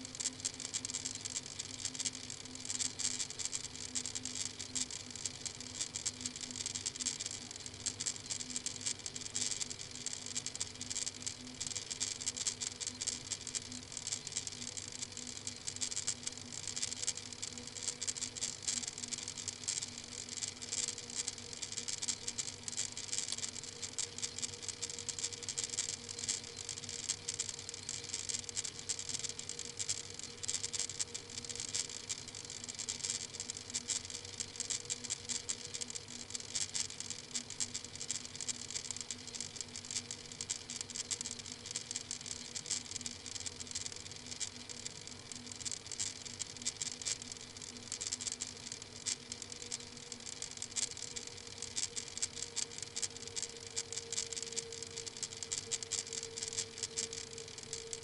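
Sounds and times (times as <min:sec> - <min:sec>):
crackling hiss: 0:00.0 - 0:58.0
low electrical hum: 0:00.0 - 0:58.0.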